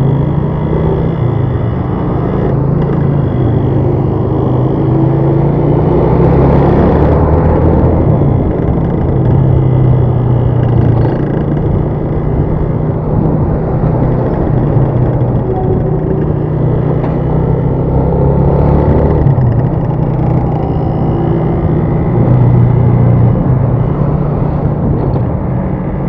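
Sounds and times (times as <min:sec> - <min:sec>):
road noise: 0:00.0 - 0:26.0
vehicle engine hum: 0:00.0 - 0:26.0.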